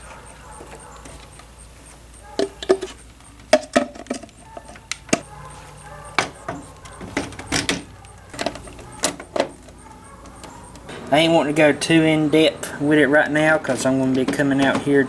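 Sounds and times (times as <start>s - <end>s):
small hard objects clinking: 0.0s - 15.0s.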